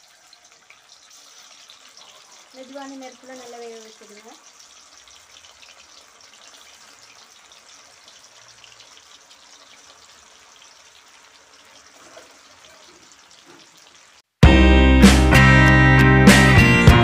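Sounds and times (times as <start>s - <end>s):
chicken deep-frying in hot oil: 0.0s - 14.4s.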